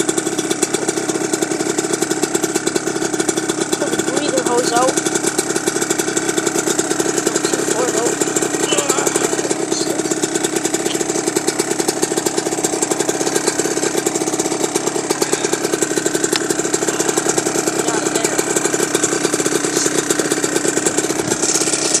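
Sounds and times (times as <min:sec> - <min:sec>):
dirt bike engine idling: 0:00.0 - 0:22.0.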